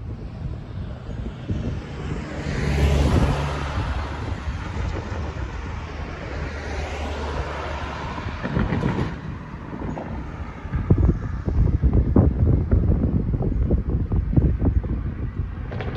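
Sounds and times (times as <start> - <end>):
low engine hum: 0.0 - 15.9
vehicles passing: 0.0 - 15.9.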